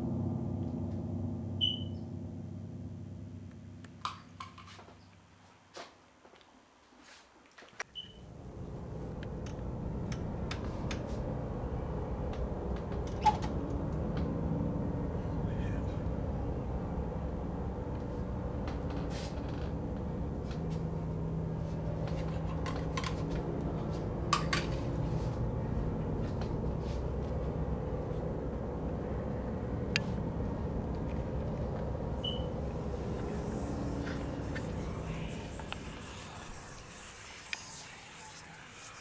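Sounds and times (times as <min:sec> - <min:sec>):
low room rumble: 0:00.0 - 0:05.4, 0:08.0 - 0:39.0.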